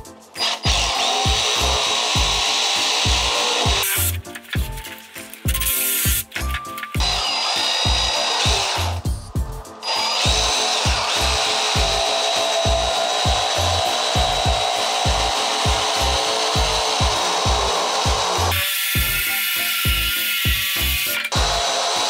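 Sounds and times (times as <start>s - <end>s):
background music with beat: 0.0s - 22.0s
jigsaw cutting foam board: 0.4s - 9.0s, 9.8s - 22.0s.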